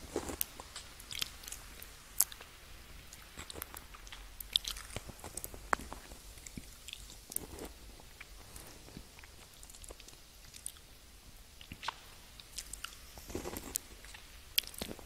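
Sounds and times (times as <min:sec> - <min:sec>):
candy crunching: 0:00.0 - 0:02.5, 0:03.1 - 0:10.9, 0:11.6 - 0:15.0.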